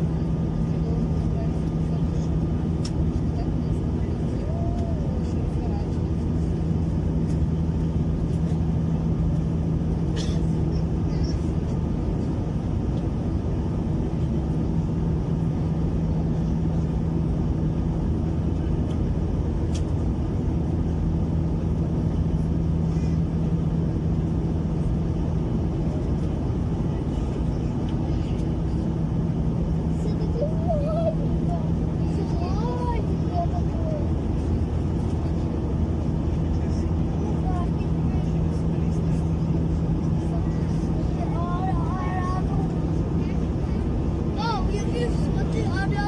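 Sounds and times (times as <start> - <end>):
airliner cabin engine drone: 0.0 - 46.0.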